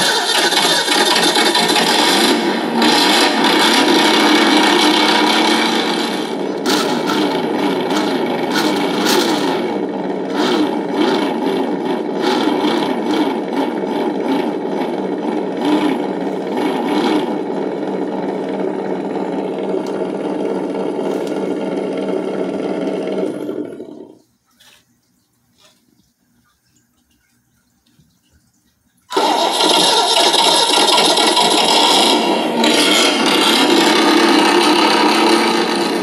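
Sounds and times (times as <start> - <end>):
synthetic engine idle from speaker: 0.0 - 24.2, 29.1 - 36.0.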